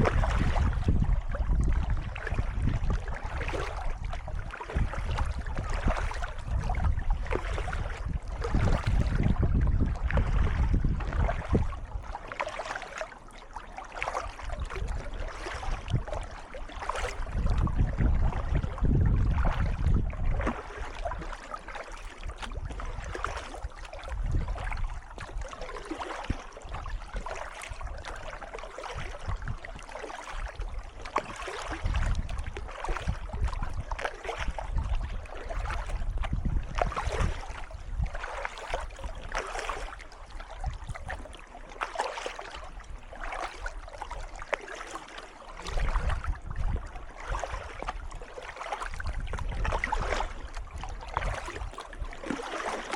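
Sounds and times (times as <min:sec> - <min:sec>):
paddle strokes splashing in water: 0:00.0 - 0:52.9.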